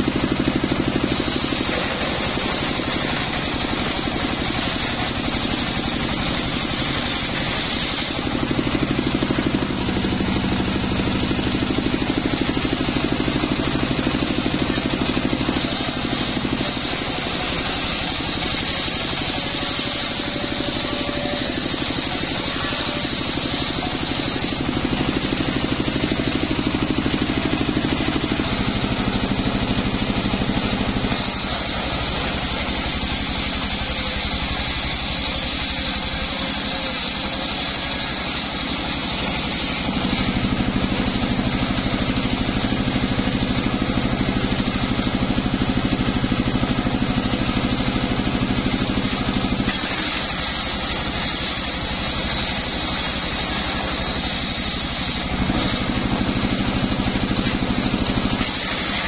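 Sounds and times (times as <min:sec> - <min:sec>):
circular saw cutting wood: 0:00.0 - 0:59.0
saw motor drone: 0:00.0 - 0:59.0.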